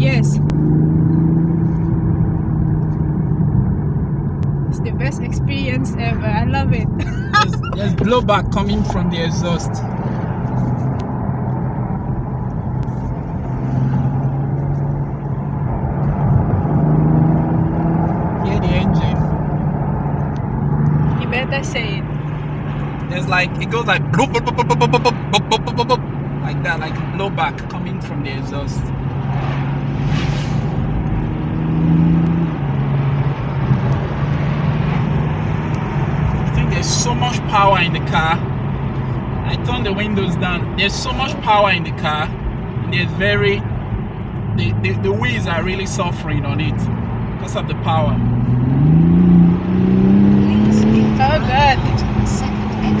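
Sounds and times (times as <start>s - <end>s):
car engine and exhaust drone: 0.0s - 53.0s
road noise: 0.0s - 53.0s.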